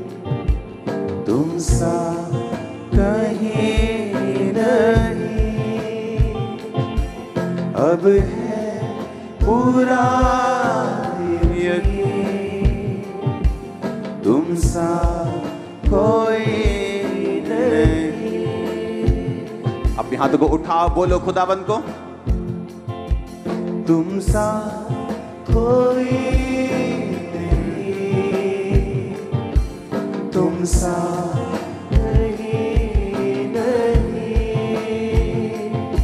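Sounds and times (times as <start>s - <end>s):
man singing: 0.0s - 22.2s, 23.7s - 36.0s
band playing worship song: 0.0s - 36.0s
steady kick drum beat: 0.0s - 36.0s.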